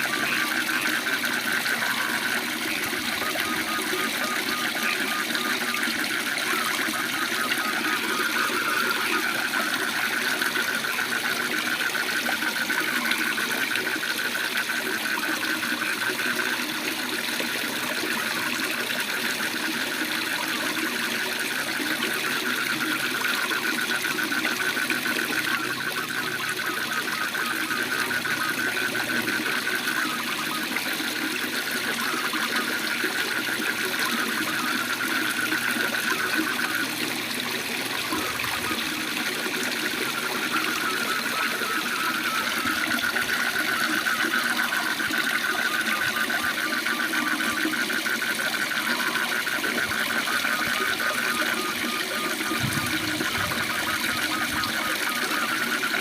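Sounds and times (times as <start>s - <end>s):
frogs trilling: 0.0s - 56.0s.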